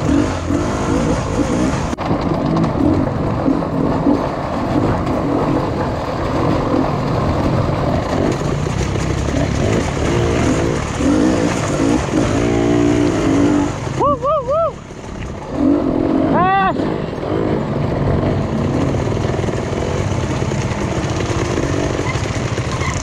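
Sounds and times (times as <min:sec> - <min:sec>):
dirt bike engine revving: 0:00.0 - 0:14.0, 0:15.4 - 0:23.0.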